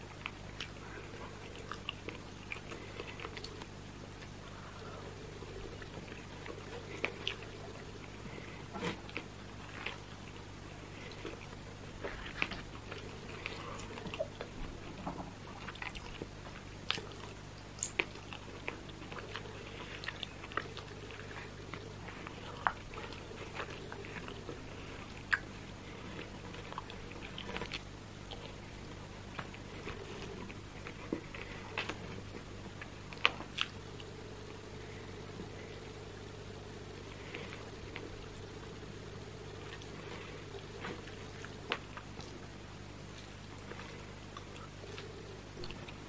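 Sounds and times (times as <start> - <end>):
close chewing and mouth sounds: 0.0 - 46.0
low hum: 0.0 - 46.0.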